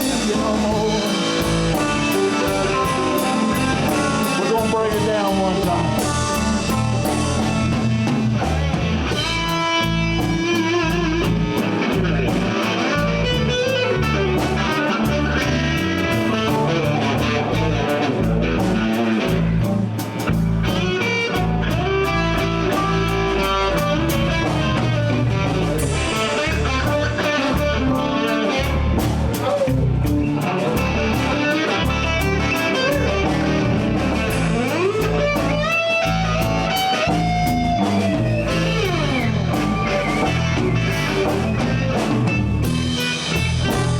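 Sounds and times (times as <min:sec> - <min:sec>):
bass guitar: 0:00.0 - 0:43.9
drum kit beat: 0:00.0 - 0:43.9
electric guitar lines: 0:00.0 - 0:43.9.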